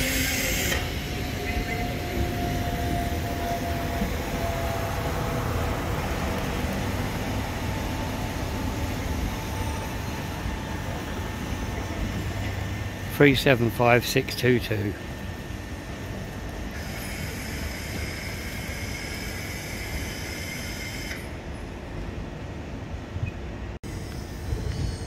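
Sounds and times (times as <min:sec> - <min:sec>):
electric train humming: 0:00.0 - 0:25.0.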